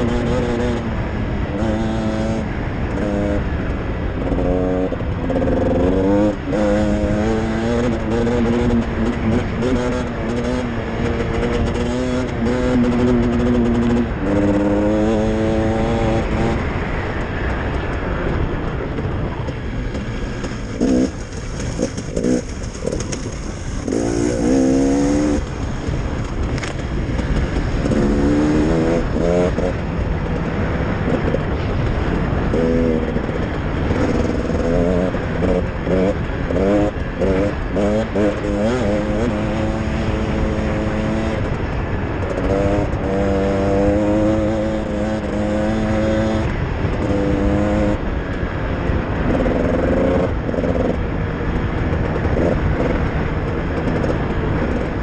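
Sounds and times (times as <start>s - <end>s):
dirt bike engine revving: 0.0s - 3.5s, 4.2s - 17.9s, 19.4s - 48.0s, 49.1s - 54.9s.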